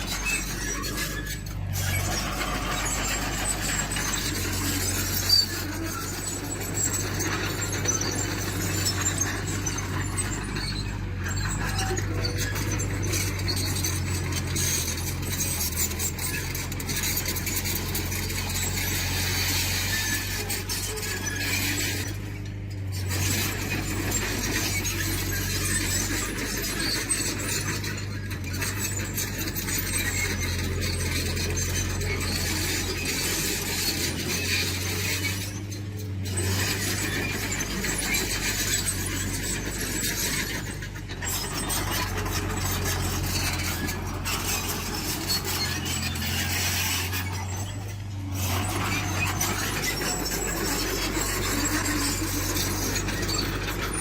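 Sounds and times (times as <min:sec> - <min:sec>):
low diesel engine drone: 0:00.0 - 0:54.0
metallic track clanking and squealing: 0:00.0 - 0:54.0.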